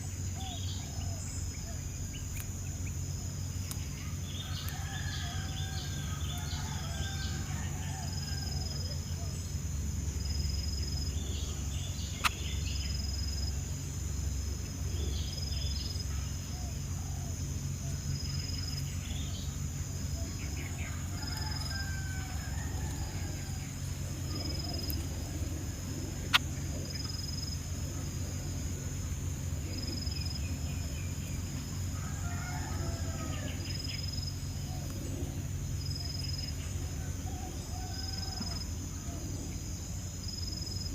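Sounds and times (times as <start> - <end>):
high insect drone: 0.0 - 40.9
small birds chirping: 0.0 - 40.9.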